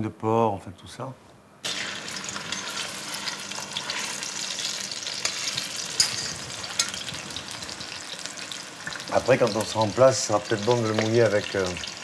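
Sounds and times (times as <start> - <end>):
pork sizzling in hot fat: 1.6 - 12.0
sharp fat crackles: 1.6 - 12.0.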